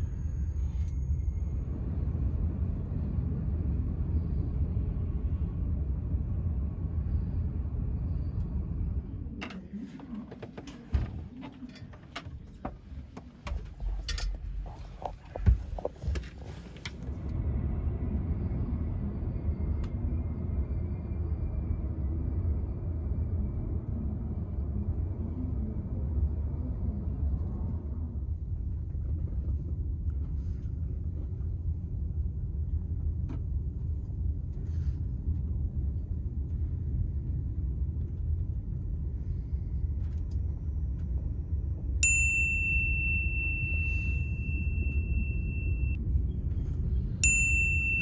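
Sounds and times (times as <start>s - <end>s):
train carriage rumble: 0.0s - 48.0s.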